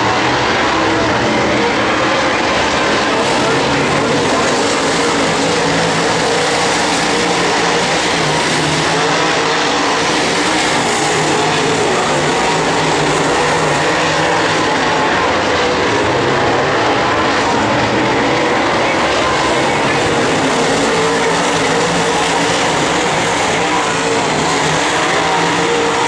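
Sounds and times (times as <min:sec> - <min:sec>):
race car engines: 0:00.0 - 0:26.0.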